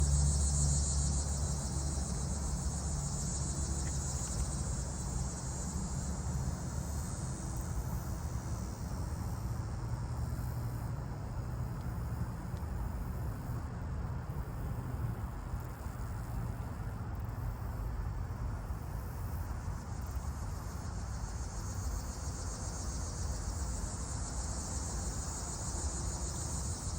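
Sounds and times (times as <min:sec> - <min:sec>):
diesel locomotive engine drone: 0:00.0 - 0:26.9
insects chirping trill: 0:00.0 - 0:26.9.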